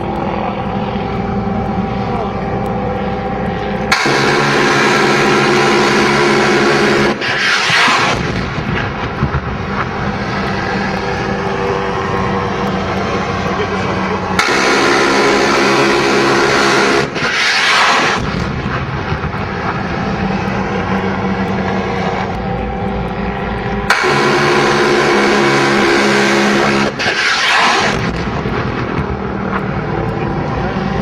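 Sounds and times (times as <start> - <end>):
helicopter running: 0.0 - 31.0
loud burst of noise: 0.0 - 31.0
brief whooshing sweep: 3.6 - 28.8.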